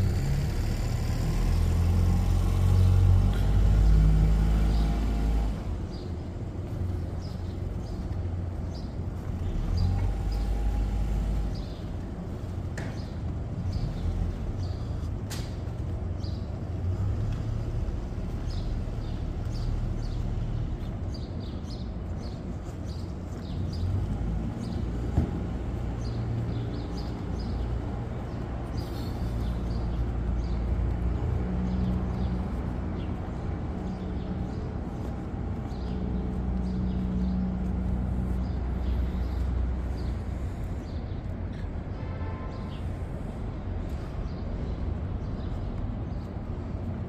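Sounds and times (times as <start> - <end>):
low rumble of city traffic: 0.0 - 47.0
birds chirping: 1.1 - 47.0.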